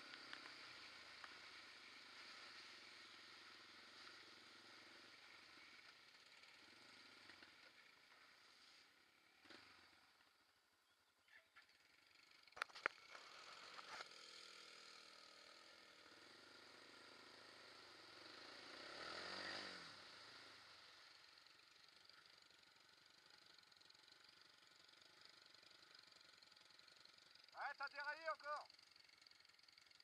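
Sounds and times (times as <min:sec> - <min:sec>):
quad bike engine running: 0:00.0 - 0:10.8, 0:11.4 - 0:30.0.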